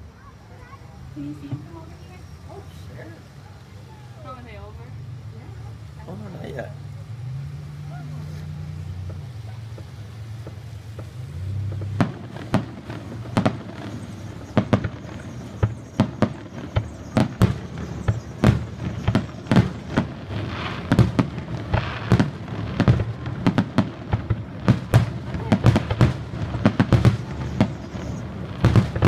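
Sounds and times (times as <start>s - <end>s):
fireworks bangs: 0.0s - 29.0s
fireworks crackle: 0.0s - 29.0s.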